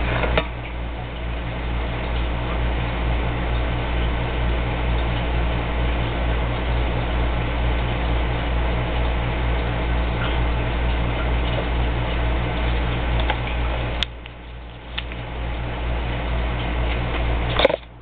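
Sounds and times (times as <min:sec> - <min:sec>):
aquarium air pump humming: 0:00.0 - 0:18.0.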